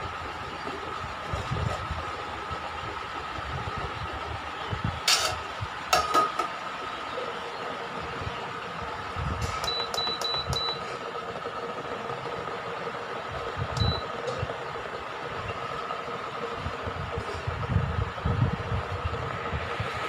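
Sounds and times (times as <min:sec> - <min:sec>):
induction cooktop electrical hum: 0:00.0 - 0:20.0.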